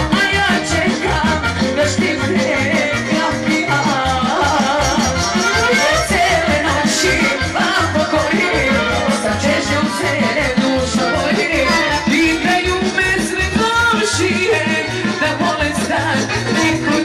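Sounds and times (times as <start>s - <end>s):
live band music: 0.0s - 17.0s
woman singing: 0.0s - 17.0s.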